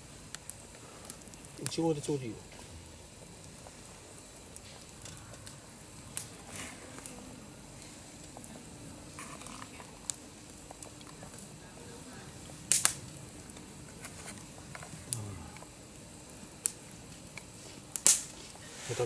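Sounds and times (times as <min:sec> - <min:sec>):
low murmur: 0:00.5 - 0:19.0.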